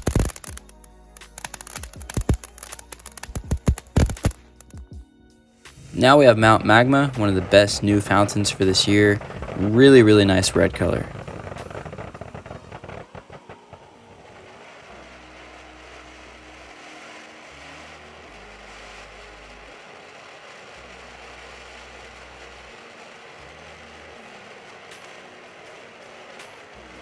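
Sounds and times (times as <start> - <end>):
firework fountain spraying hiss: 0.0 - 4.8, 5.7 - 27.0
sharp crackles: 0.0 - 4.9, 5.7 - 27.0.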